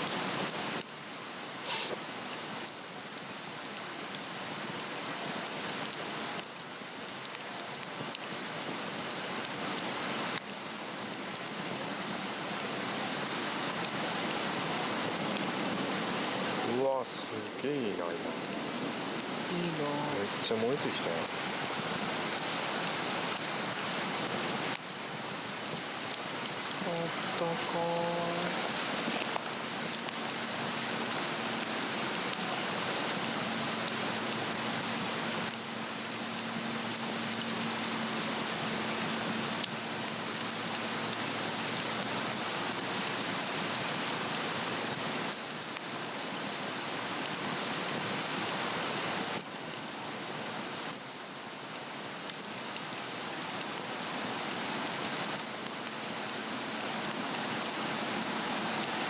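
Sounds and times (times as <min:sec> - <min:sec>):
log fire hissing and crackling: 0:00.0 - 0:59.0.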